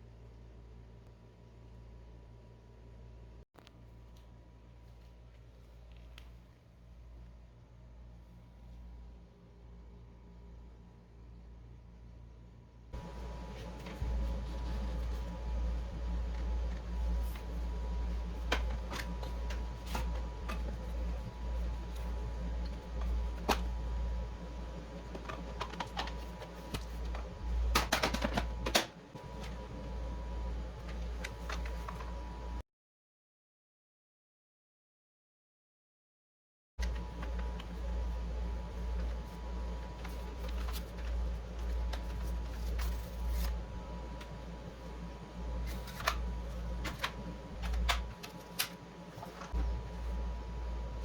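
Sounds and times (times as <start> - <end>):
low steady hum: 0.0 - 32.6, 36.8 - 51.0.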